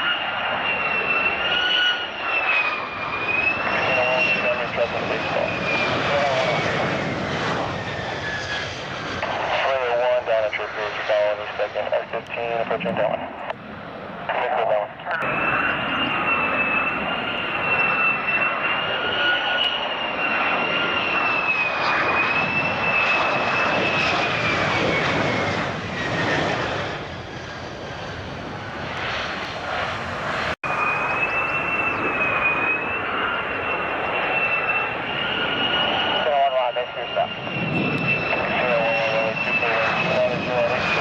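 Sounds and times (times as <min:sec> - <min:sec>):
fighter jet engine whine: 0:00.0 - 0:41.0.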